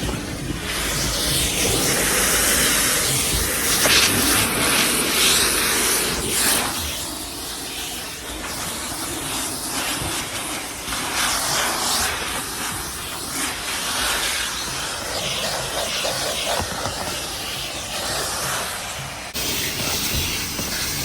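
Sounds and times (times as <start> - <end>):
vacuum hose rushing air: 0.0 - 21.0.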